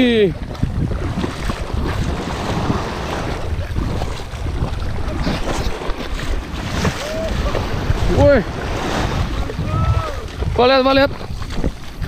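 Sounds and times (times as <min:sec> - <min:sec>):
small waves lapping: 0:00.0 - 0:12.0
wind buffeting microphone: 0:00.0 - 0:12.0.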